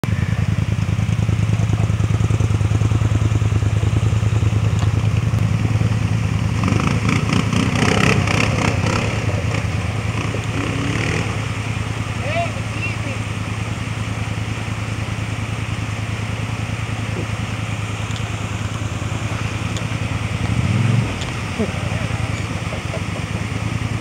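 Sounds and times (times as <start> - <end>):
atv engine idling: 0.0 - 24.0
atv engine revving: 0.0 - 24.0.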